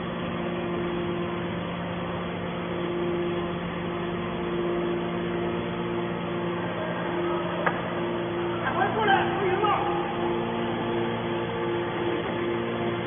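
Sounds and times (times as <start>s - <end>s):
baler machine hum: 0.0s - 13.0s
higher machine tone: 0.0s - 13.0s.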